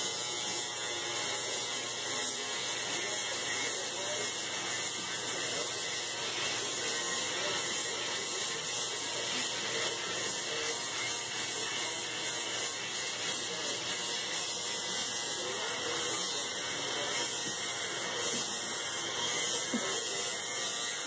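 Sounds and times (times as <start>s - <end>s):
electric shaver buzzing: 0.0s - 21.0s.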